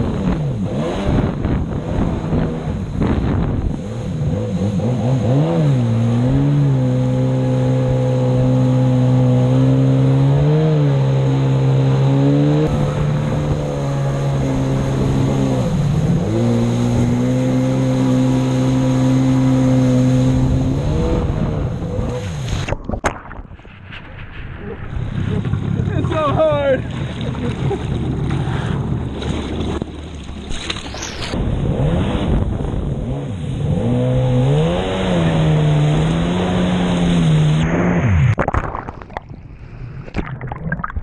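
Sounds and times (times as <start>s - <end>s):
jet ski engine running hard: 0.0s - 22.7s, 25.1s - 30.4s, 31.3s - 38.2s.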